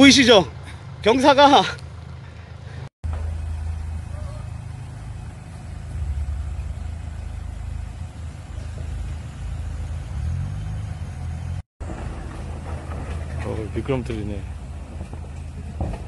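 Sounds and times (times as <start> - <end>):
suv engine running low: 0.4 - 16.0.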